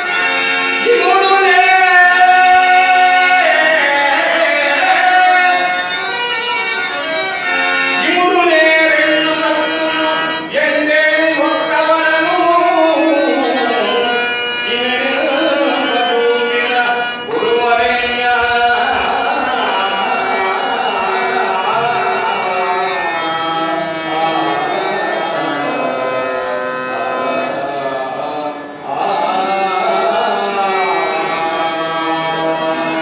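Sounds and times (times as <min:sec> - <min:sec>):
man singing long held notes: 0:00.8 - 0:06.1, 0:07.0 - 0:33.0.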